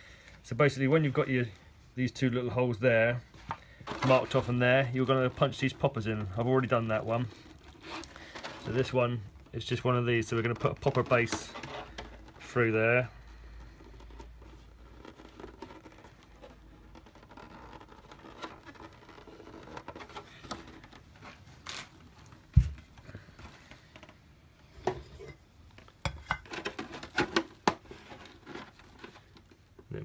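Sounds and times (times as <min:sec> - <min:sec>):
plastic parts scraping and rustling: 0:00.0 - 0:30.0.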